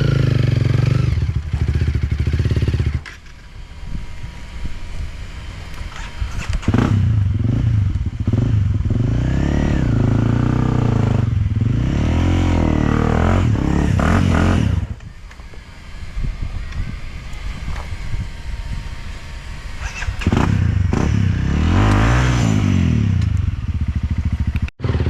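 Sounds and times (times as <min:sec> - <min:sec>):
dirt bike engine revving: 0:00.0 - 0:03.3, 0:05.4 - 0:15.0, 0:15.7 - 0:25.0.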